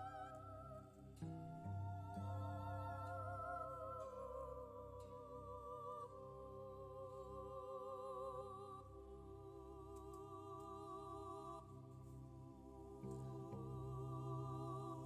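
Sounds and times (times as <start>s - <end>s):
soft music with held notes: 0.0s - 15.0s.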